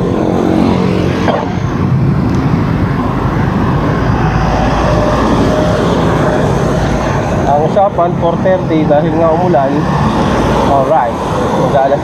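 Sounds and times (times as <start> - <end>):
traffic going by: 0.0 - 12.0
wind noise on microphone: 0.0 - 12.0.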